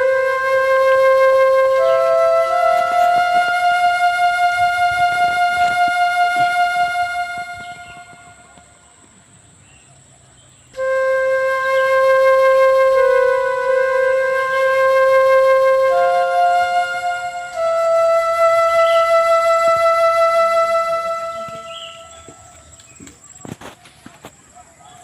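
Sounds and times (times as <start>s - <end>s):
flute playing held notes: 0.0s - 9.0s, 10.8s - 23.8s.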